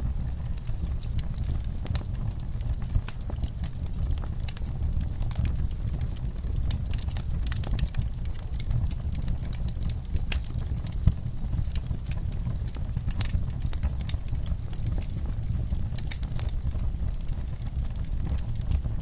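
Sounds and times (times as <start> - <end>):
fire crackles and pops: 0.0 - 19.0
wood fire rumbling: 0.0 - 19.0.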